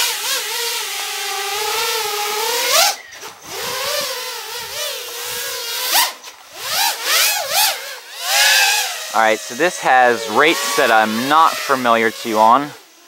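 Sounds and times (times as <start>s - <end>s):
drone propeller whine: 1.5s - 13.0s.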